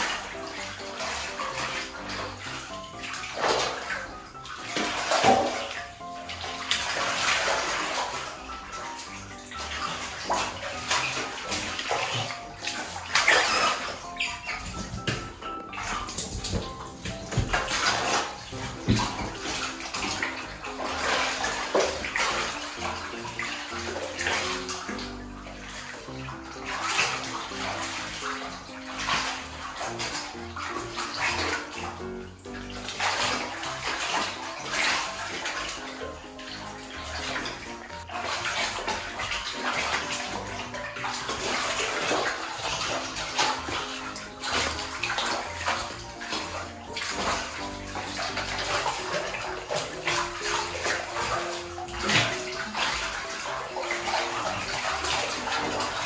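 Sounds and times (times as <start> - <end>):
background music: 0.0 - 56.0
otters splashing in water: 0.0 - 56.0.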